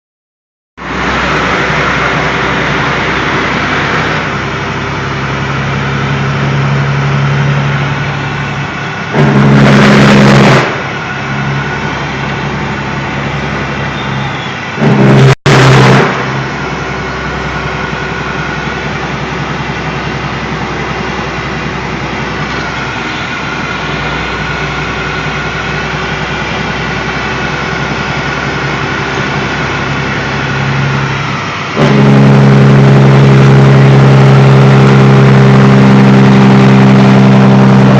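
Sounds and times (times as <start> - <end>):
diesel exhaust drone: 0.8 - 37.9.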